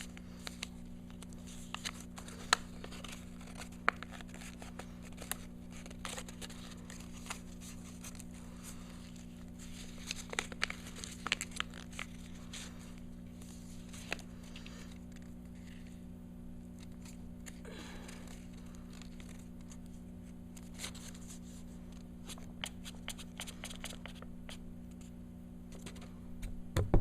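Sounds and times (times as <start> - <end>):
paper crinkling and snapping: 0.0 - 16.0, 16.7 - 24.3
low electrical hum: 0.0 - 27.0.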